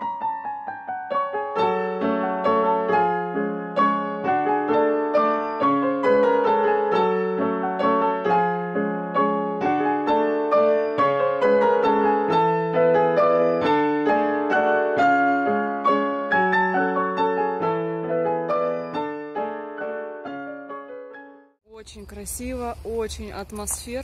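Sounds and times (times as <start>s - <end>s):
gentle piano melody: 0.0s - 21.6s.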